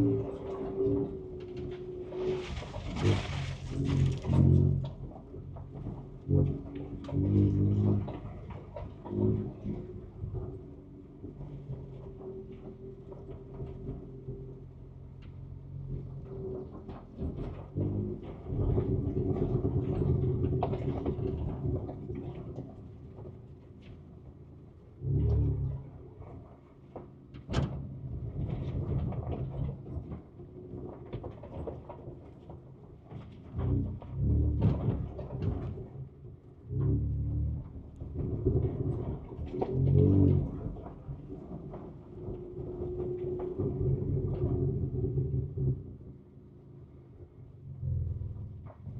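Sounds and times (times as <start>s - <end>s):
truck knocks and rattles: 0.0s - 48.9s.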